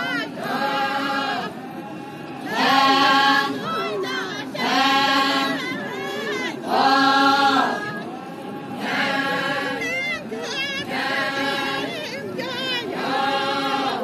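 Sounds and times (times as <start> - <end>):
women singing unaccompanied: 0.0 - 1.6, 2.4 - 8.1, 8.8 - 14.0.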